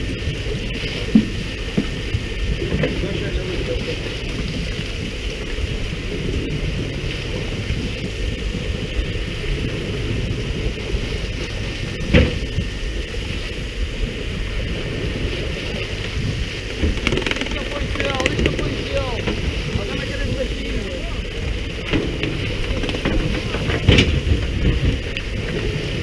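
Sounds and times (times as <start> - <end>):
boat engine rumble: 0.0 - 26.0
water hissing along hull: 0.0 - 26.0
wind on microphone: 0.0 - 26.0.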